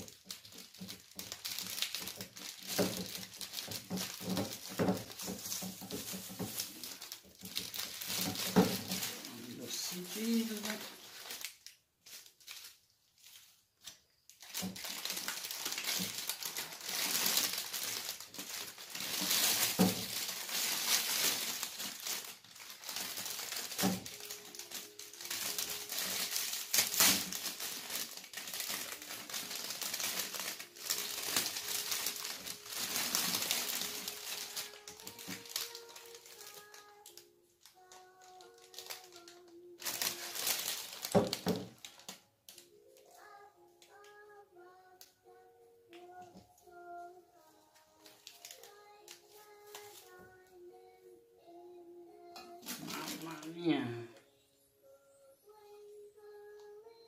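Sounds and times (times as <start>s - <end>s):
cellophane crinkling and rustling: 0.0s - 45.1s, 45.9s - 50.8s, 52.2s - 54.0s.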